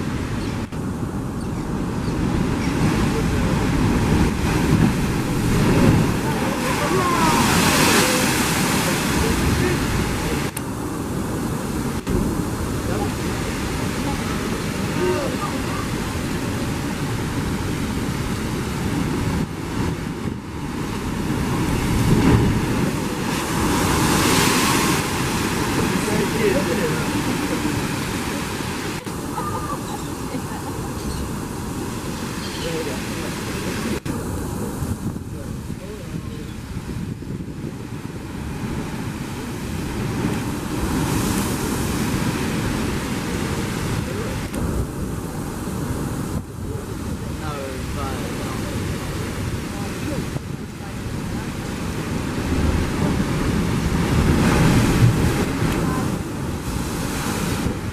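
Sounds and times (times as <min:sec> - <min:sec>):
surf rushing: 0:00.0 - 0:57.9
wave blasting through blowhole: 0:00.0 - 0:57.9
wind rumbling on microphone: 0:00.0 - 0:57.9.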